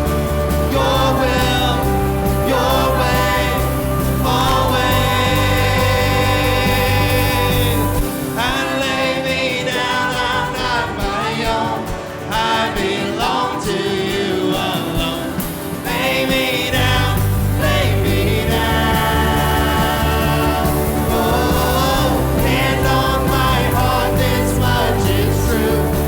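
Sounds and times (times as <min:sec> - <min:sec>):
bass: 0:00.0 - 0:26.0
live worship band music: 0:00.0 - 0:26.0
people singing: 0:00.0 - 0:26.0.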